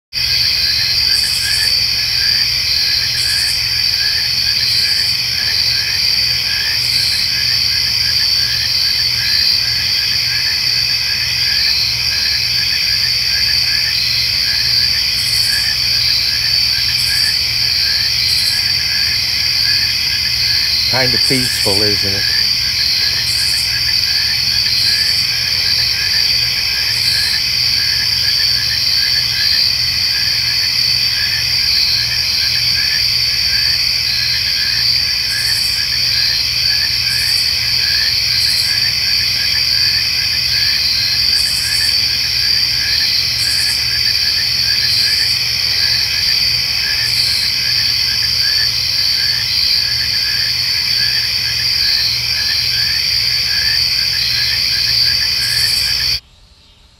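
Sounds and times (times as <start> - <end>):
crickets trilling: 0.2 - 56.2
insect chirping: 0.2 - 56.2.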